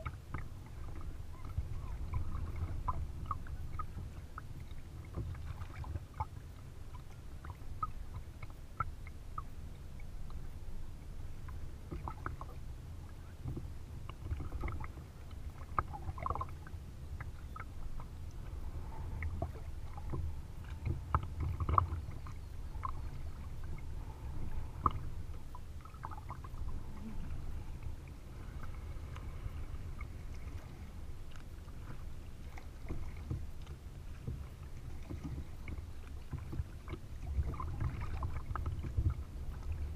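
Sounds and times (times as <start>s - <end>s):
low rumble of water and air: 0.0s - 39.9s
paddle splashing water: 0.0s - 39.9s
water lapping at hull: 0.0s - 39.9s.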